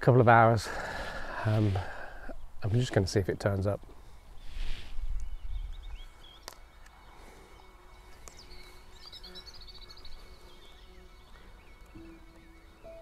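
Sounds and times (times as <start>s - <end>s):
small birds chirping: 0.3s - 13.0s.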